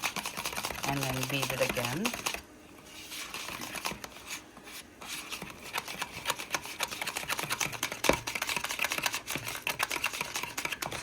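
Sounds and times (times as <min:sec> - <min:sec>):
utensil beating batter in bowl: 0:00.0 - 0:11.0.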